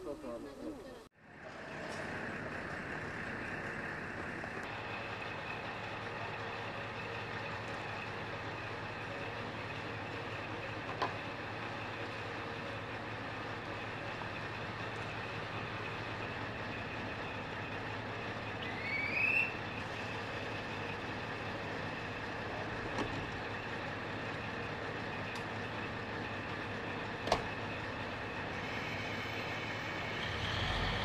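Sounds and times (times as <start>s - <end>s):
diesel railcar engine idling: 1.1s - 31.0s.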